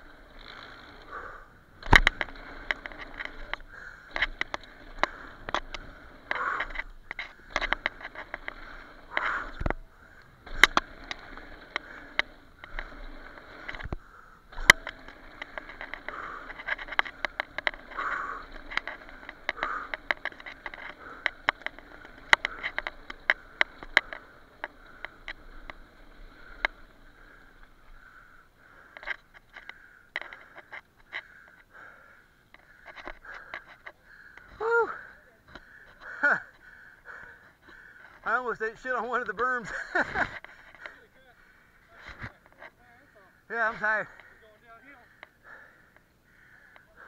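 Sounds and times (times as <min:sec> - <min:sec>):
bike clicking and rattling: 0:00.0 - 0:47.0
bike tyres crunching over stones: 0:00.0 - 0:47.0.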